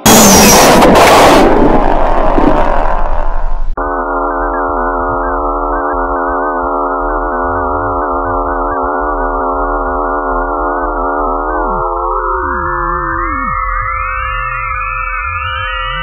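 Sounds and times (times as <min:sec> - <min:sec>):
dark ambient drone: 0:00.0 - 0:16.0.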